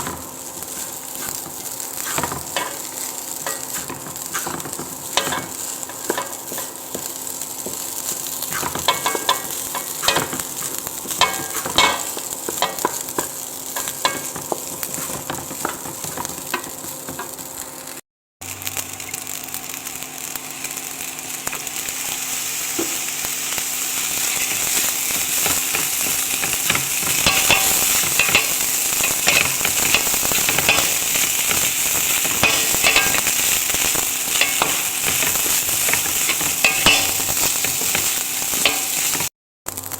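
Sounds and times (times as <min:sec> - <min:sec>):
spatula scraping pan: 0:00.0 - 0:17.4, 0:24.3 - 0:39.3
food sizzling in a frying pan: 0:00.0 - 0:39.9.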